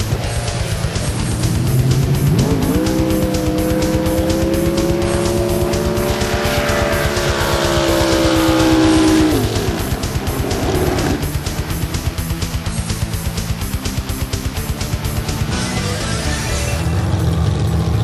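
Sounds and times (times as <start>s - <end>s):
rock music with steady beat: 0.0s - 17.3s
boat engine at full throttle: 0.0s - 18.0s.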